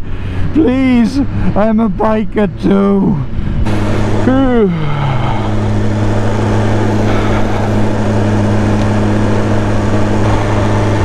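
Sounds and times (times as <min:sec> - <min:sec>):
motorcycle engine at steady throttle: 0:00.0 - 0:11.0.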